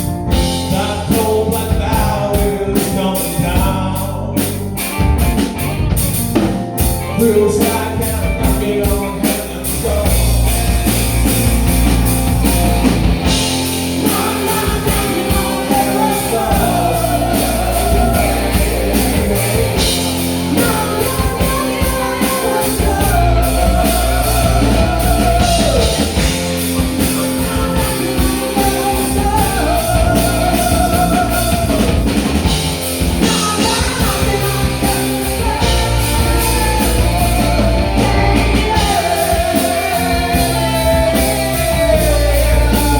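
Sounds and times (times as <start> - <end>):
rock band music with singing: 0.0 - 42.9.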